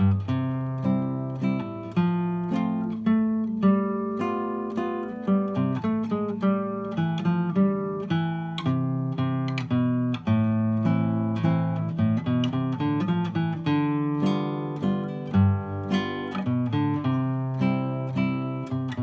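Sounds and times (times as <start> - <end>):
classical guitar plucked: 0.0 - 19.0.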